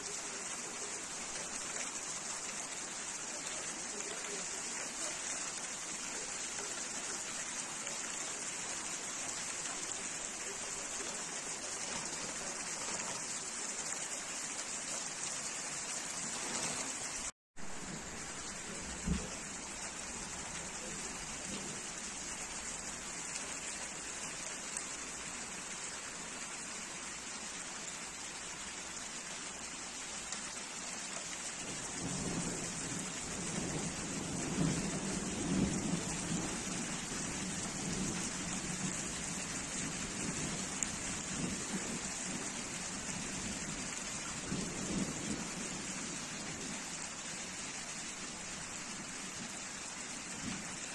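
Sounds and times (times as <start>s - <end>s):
heavy rain on pavement: 0.0s - 50.9s.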